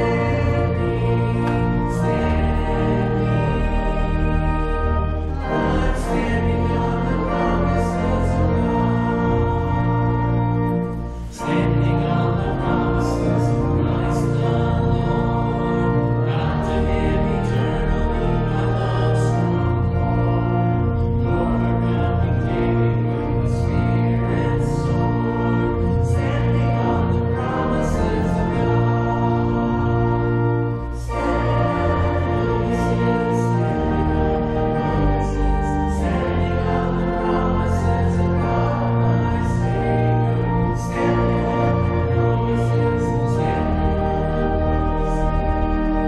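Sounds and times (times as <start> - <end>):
congregation singing a hymn: 0.0 - 46.0
organ chords: 0.0 - 46.0.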